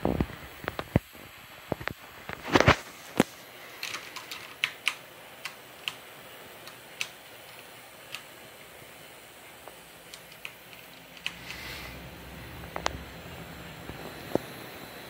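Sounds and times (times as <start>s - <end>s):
coil whine chirps and clicks: 0.0s - 15.0s
cooling fans hissing: 0.0s - 15.0s.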